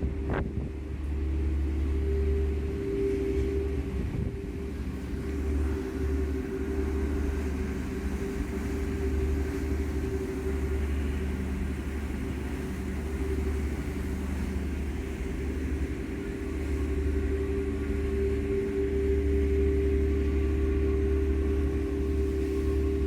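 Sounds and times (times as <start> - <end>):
ferry engines droning: 0.0 - 23.0.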